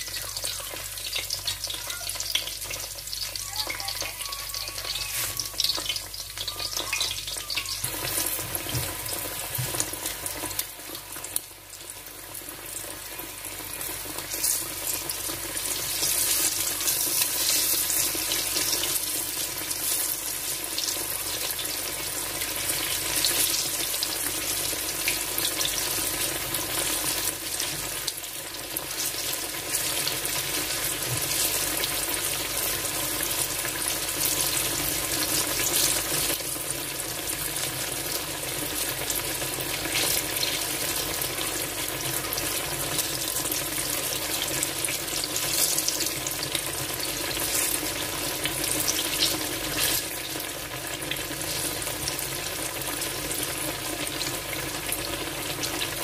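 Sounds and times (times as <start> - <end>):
frying oil sizzle with crackling: 0.0 - 56.0.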